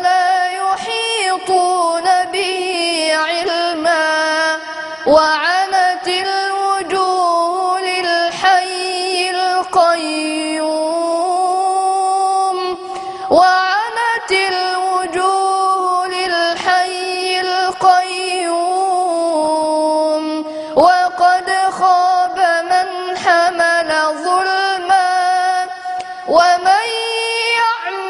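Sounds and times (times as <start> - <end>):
high voice chanting melodically: 0.0 - 28.0.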